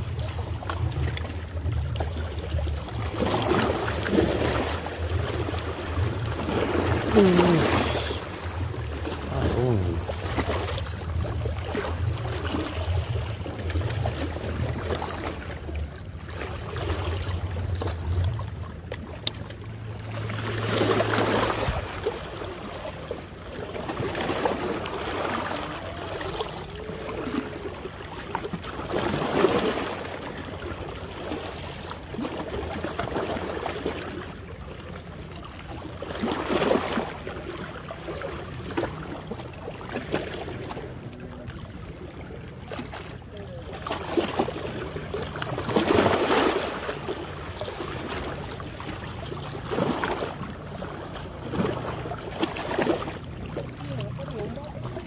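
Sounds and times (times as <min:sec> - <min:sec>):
waves splashing against rocks: 0:00.0 - 0:55.0.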